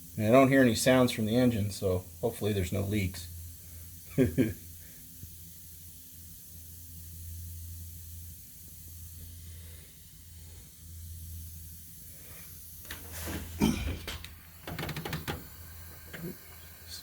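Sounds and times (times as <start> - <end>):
faint hiss of oil pressure: 0.0 - 17.0
low steady hum: 0.0 - 17.0.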